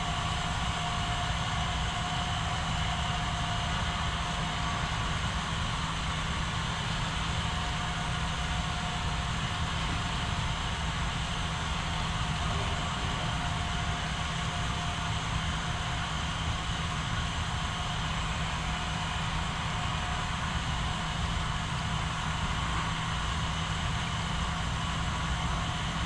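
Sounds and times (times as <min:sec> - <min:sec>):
model train motor humming: 0:00.0 - 0:26.0.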